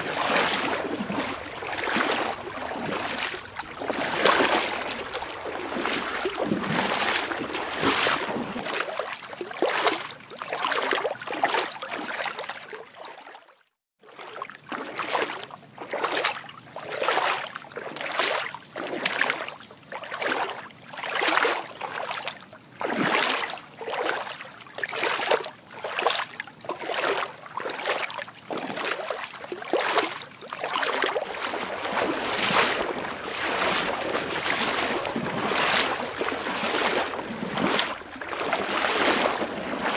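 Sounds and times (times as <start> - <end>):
water sloshing: 0.0 - 13.3, 14.1 - 39.9.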